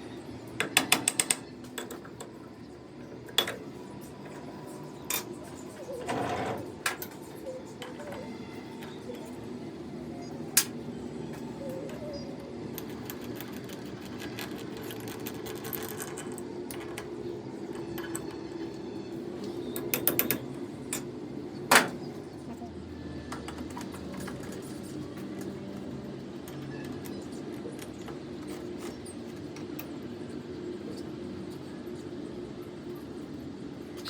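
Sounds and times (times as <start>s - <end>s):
workshop machinery humming: 0.0s - 34.0s.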